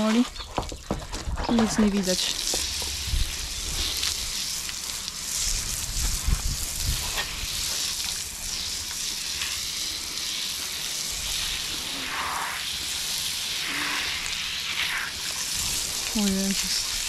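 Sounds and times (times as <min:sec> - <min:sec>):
hose spray hissing: 0:01.7 - 0:17.0.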